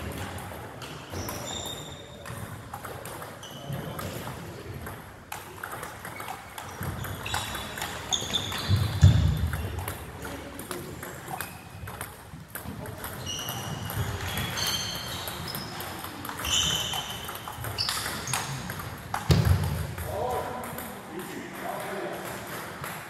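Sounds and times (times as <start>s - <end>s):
table tennis balls clicking: 2.1s - 23.0s.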